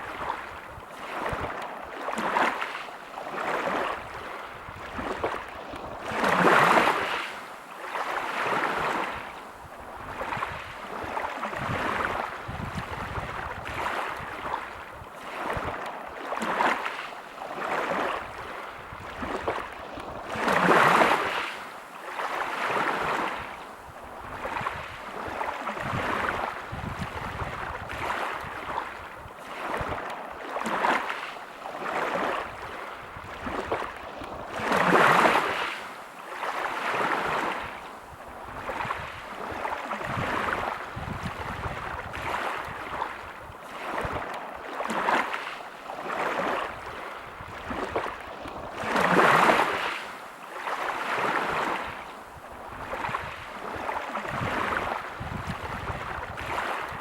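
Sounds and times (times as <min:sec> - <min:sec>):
waves breaking on pebble beach: 0:00.0 - 0:09.3, 0:10.1 - 0:23.6, 0:24.3 - 0:57.0.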